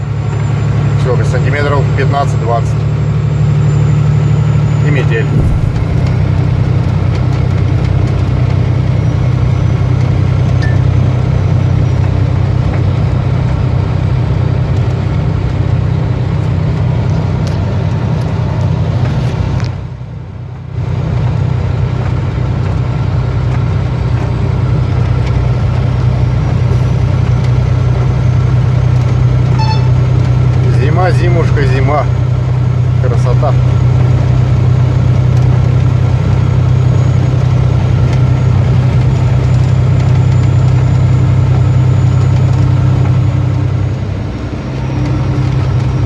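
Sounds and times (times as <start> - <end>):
truck engine droning: 0.0 - 46.0.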